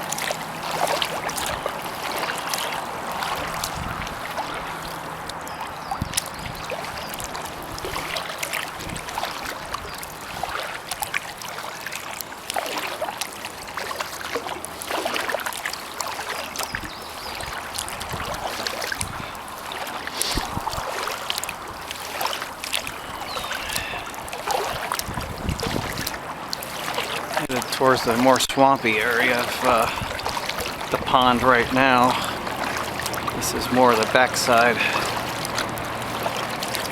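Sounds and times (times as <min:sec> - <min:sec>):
distant highway traffic hum: 0:00.0 - 0:36.9
water splashing off paddle: 0:00.0 - 0:36.9.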